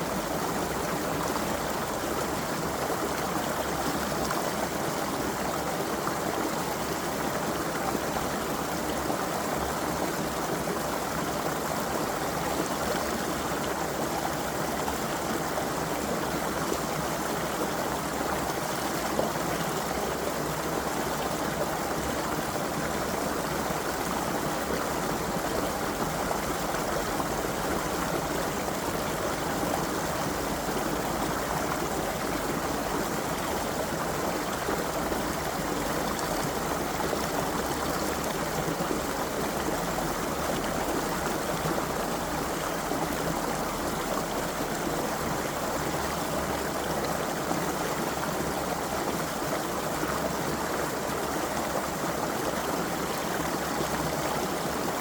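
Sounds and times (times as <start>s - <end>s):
creek water flowing over stones: 0.0s - 55.0s.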